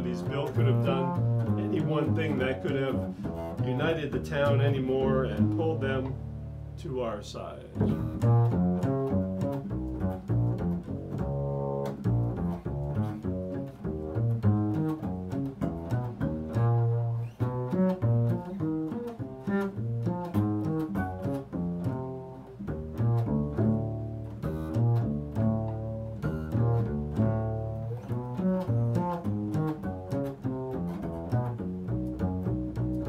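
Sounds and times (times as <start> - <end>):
double bass playing low notes: 0.0 - 33.0.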